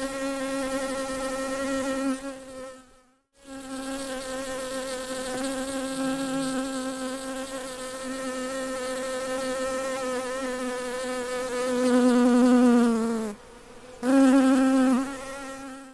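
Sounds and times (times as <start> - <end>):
honeybee buzzing: 0.0 - 15.9.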